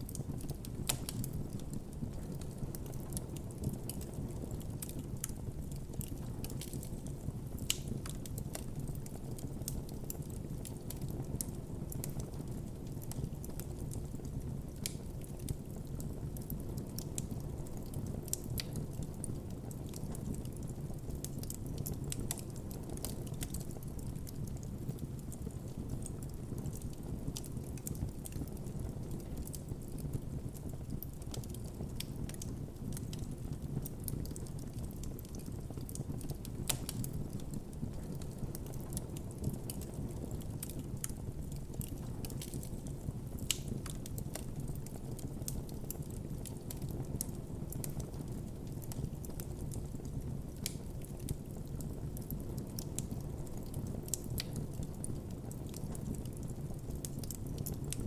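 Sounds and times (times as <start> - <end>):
wood crackling and popping: 0.0 - 58.0.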